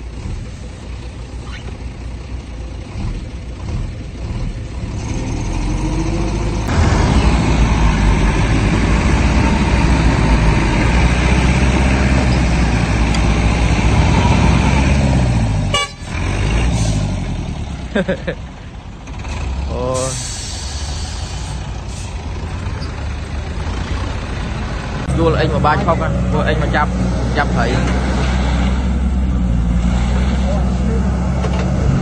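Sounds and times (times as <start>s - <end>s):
truck engine revving hard: 2.7s - 32.0s.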